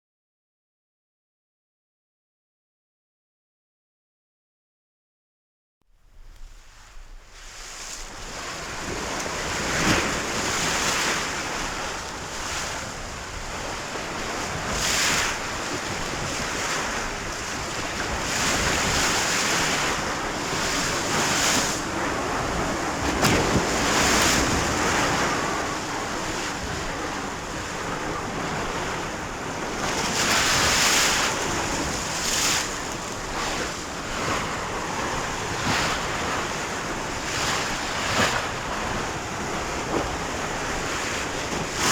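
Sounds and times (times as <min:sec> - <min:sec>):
wind: 0:05.9 - 0:41.9
sea waves: 0:06.2 - 0:41.9.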